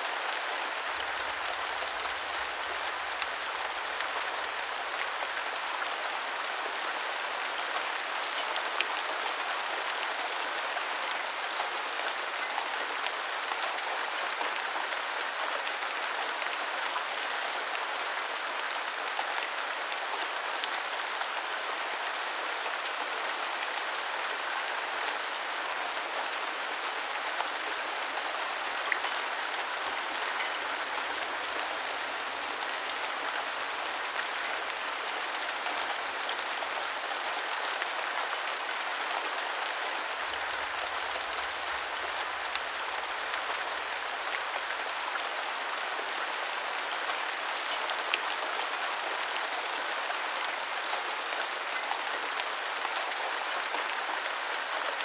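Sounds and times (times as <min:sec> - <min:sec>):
rainfall: 0:00.0 - 0:55.0.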